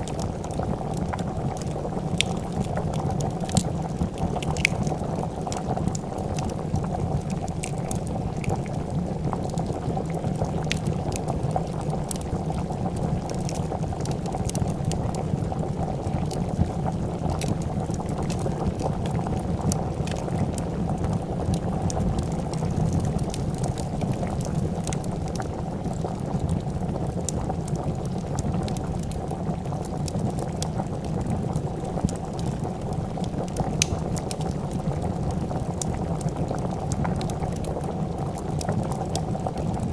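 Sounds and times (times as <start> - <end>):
soup bubbling in a pot: 0.0 - 39.9
wood fire crackling: 0.0 - 39.9.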